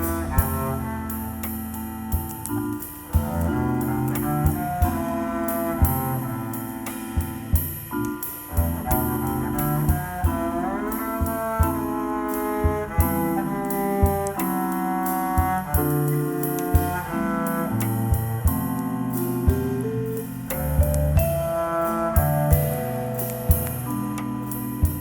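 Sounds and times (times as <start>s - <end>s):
double bass: 0.0s - 25.0s.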